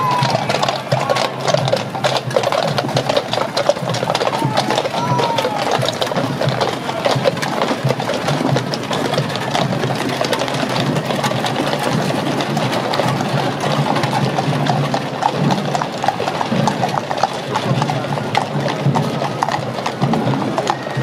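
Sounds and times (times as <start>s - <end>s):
hooves and marching clatter: 0.0s - 21.0s
wooden wheels rumbling on road: 0.0s - 21.0s.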